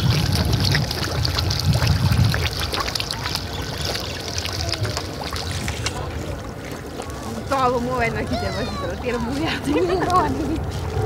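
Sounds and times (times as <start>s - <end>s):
fish splashing and gulping: 0.0s - 11.0s.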